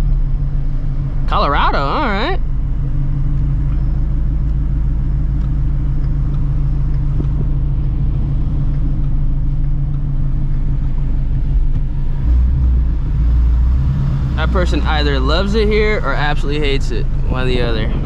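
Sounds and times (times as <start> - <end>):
car exhaust drone: 0.0 - 18.0.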